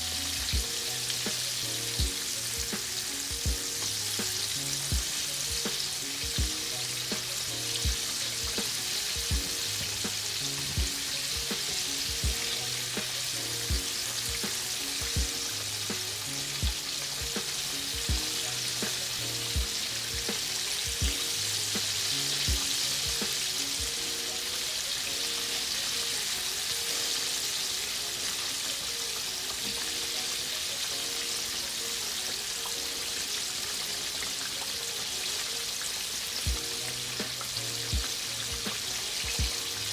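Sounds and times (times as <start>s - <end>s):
chicken sizzling in hot oil: 0.0s - 39.9s
music with low held notes: 0.0s - 39.9s.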